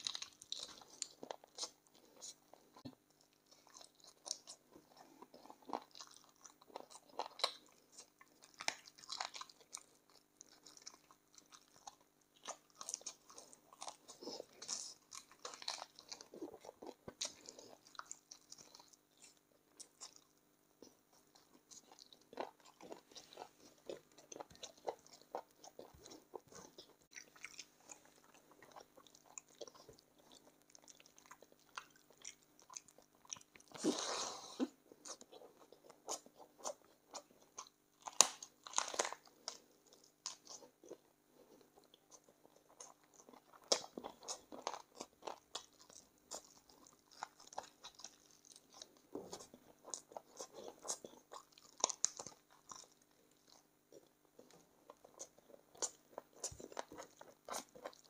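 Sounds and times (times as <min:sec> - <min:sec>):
crunching cartilage: 0:00.0 - 0:34.4, 0:35.0 - 0:58.0
wet chewing smacks: 0:00.0 - 0:58.0.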